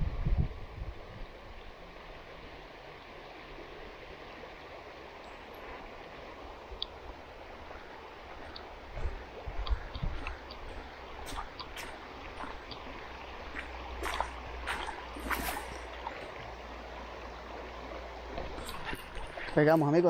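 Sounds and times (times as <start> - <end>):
river running over gravel: 2.1 - 20.0.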